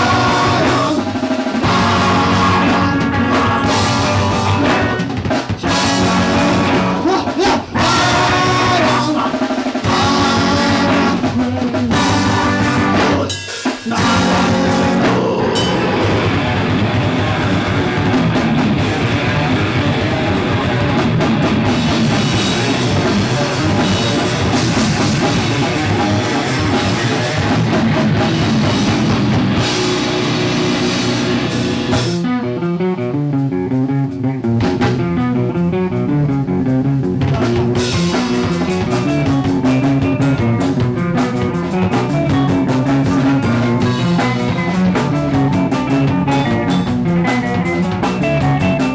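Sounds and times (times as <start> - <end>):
drum kit: 0.0 - 48.9
electric guitar: 0.0 - 48.9
rock band playing: 0.0 - 48.9.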